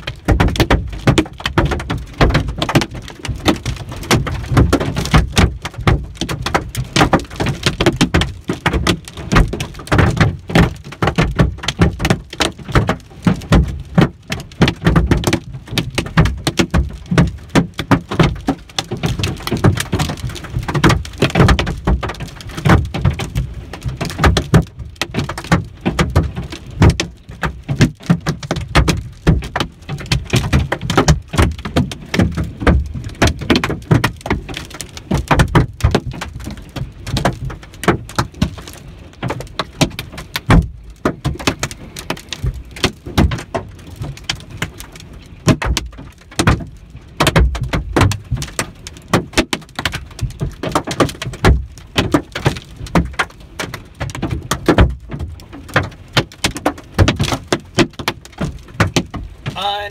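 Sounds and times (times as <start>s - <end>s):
hailstones hitting a vehicle: 0.0s - 59.9s.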